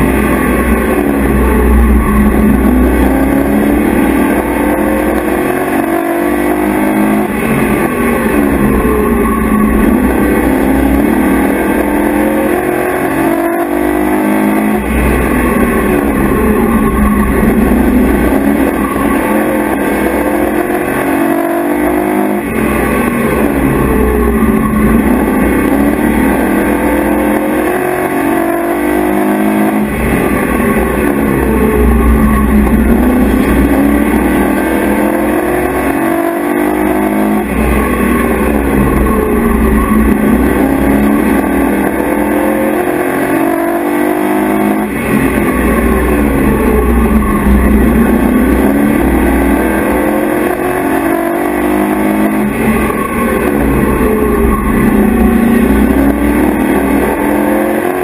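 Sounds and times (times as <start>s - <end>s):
race truck engine revving: 0.0s - 58.0s.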